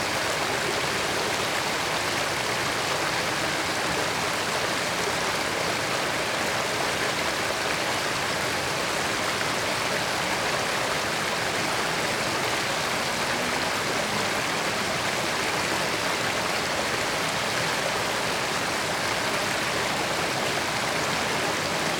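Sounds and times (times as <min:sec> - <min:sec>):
creek water flowing over rocks: 0:00.0 - 0:21.9.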